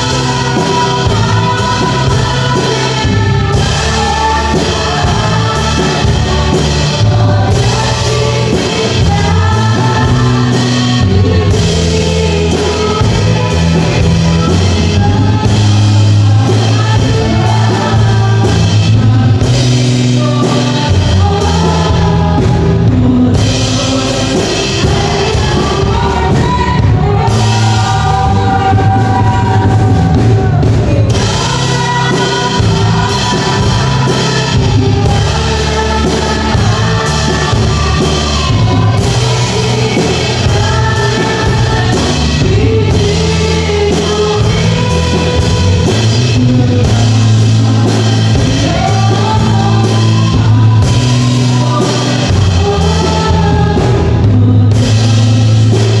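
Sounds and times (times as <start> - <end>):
bass line: 0.0 - 56.0
drum kit: 0.0 - 56.0
keyboard: 0.0 - 56.0
woman singing lead: 0.0 - 56.0.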